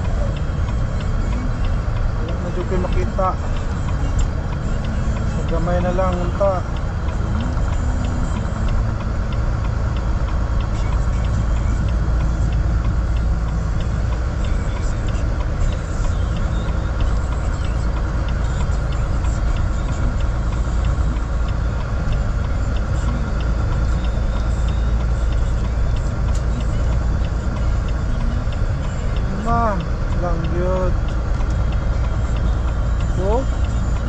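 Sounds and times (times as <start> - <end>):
engine and road rumble: 0.0 - 34.0
faint regular ticking: 0.0 - 34.0.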